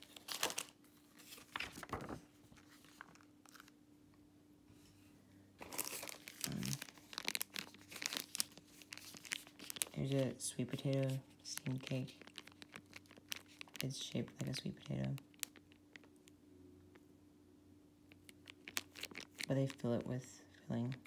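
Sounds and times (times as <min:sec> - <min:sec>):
plastic wrappers crinkling: 0:00.0 - 0:03.8, 0:05.6 - 0:16.4, 0:18.1 - 0:21.0.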